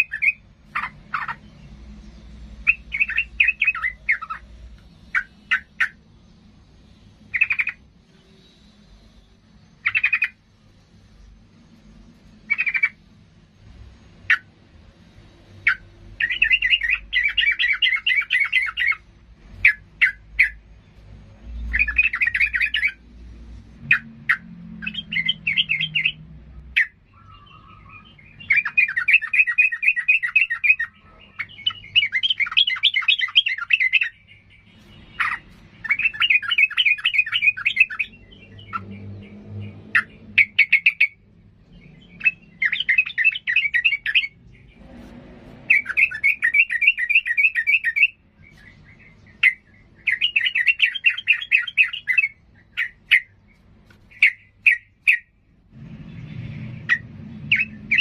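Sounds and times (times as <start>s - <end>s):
bulbul chattering song: 0.0s - 58.0s.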